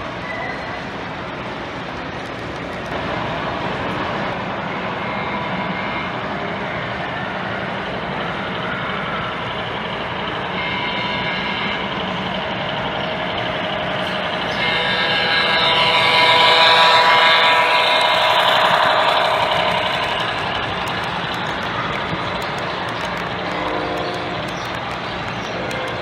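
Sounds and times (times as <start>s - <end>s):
model locomotive engine drone: 0.0s - 26.0s.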